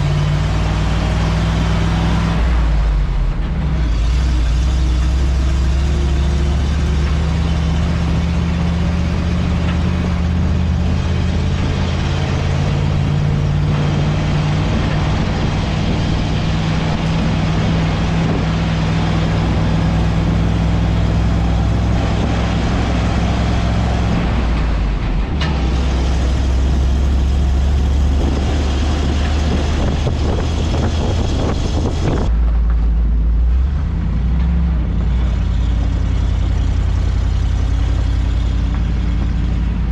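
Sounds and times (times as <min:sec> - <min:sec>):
heavy vehicle engine droning: 0:00.0 - 0:39.9.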